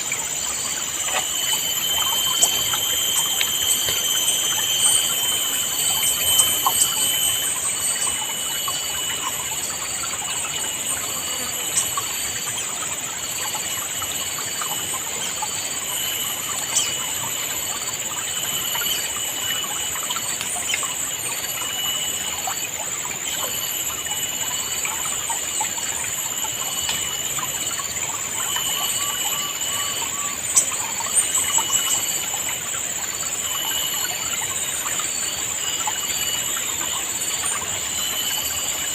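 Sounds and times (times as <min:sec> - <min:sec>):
birds calling: 0:00.0 - 0:38.9
high-pitched drone: 0:00.0 - 0:38.9.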